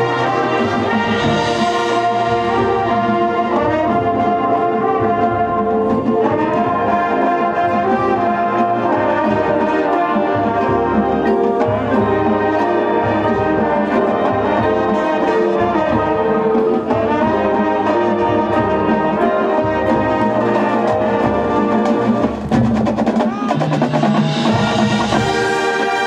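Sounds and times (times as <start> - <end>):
brass chords: 0.0 - 26.0
drums and percussion: 0.0 - 26.0.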